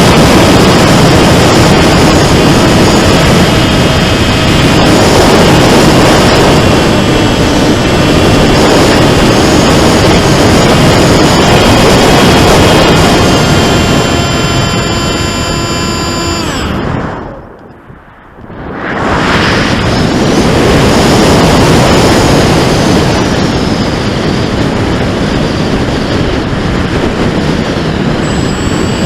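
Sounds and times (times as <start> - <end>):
electric motor and propeller whine: 0.0 - 29.0
wind rushing over microphone: 0.0 - 29.0.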